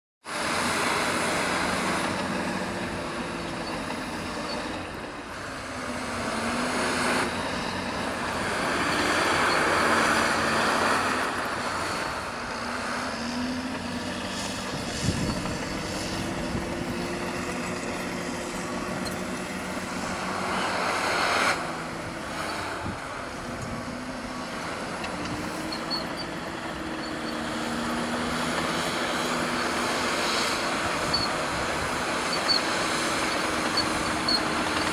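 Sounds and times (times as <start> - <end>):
bulldozer diesel engine: 0.2 - 34.9
continuous mechanical noise: 0.3 - 34.9.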